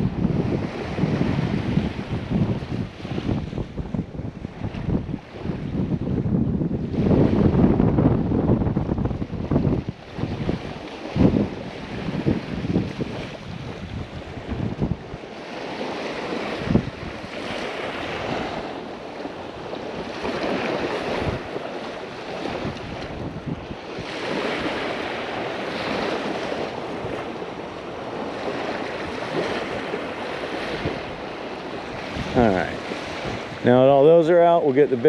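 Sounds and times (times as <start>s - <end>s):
surf washing ashore: 0.0s - 35.0s
wind buffeting microphone: 0.0s - 35.0s.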